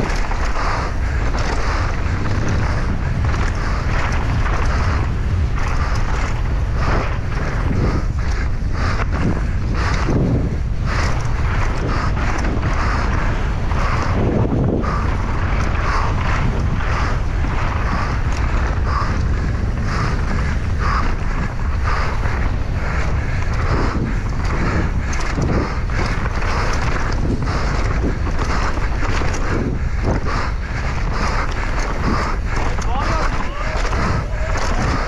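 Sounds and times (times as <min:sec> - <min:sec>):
bike rattling over rough ground: 0:00.0 - 0:35.0
wind buffeting microphone: 0:00.0 - 0:35.0.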